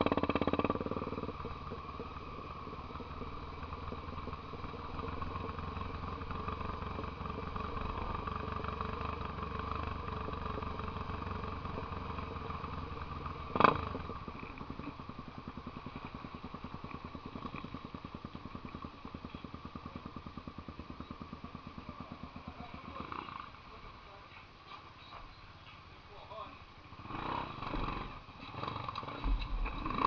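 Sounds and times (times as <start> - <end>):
small engine running: 0.0 - 24.9, 26.1 - 30.0.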